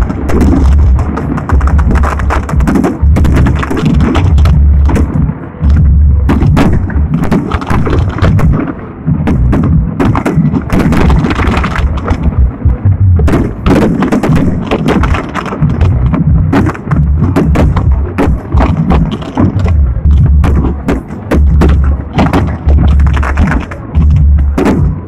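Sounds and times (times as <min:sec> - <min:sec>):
fireworks bangs: 0:00.0 - 0:25.0
low rumble: 0:00.0 - 0:25.0.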